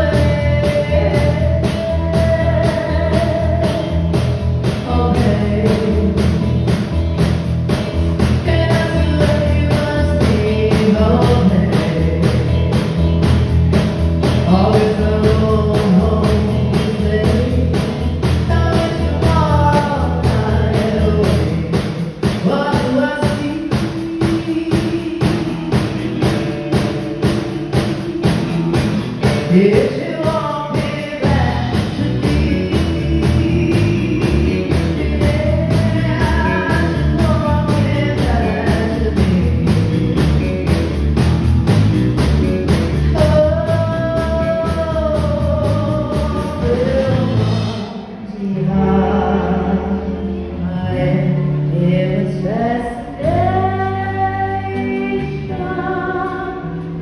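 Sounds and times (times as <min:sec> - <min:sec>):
lead singer singing: 0:00.0 - 0:07.2, 0:08.2 - 0:41.0, 0:43.0 - 0:57.0
live rock band playing: 0:00.0 - 0:57.0.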